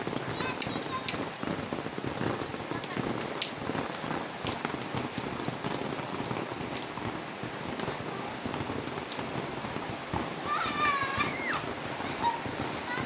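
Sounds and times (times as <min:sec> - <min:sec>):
sharp raindrop impacts: 0:00.0 - 0:13.0
steady rain falling: 0:00.0 - 0:13.0.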